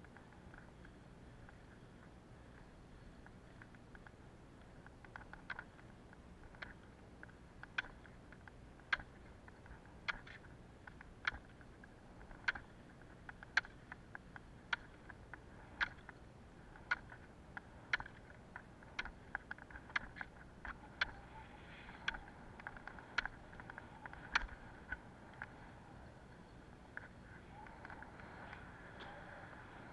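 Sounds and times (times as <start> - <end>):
ski pole tips clicking on asphalt: 0.0 - 29.9.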